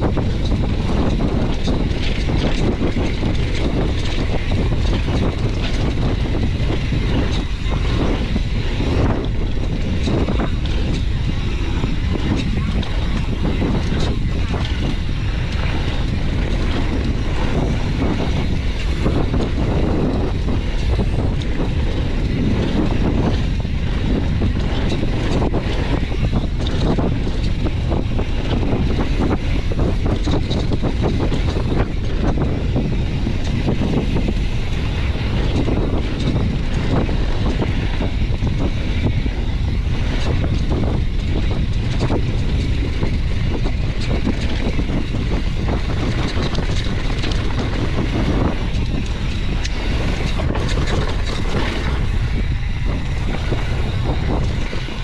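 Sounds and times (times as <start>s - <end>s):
constant crackle: 0.0s - 55.0s
wind buffeting microphone: 0.0s - 55.0s.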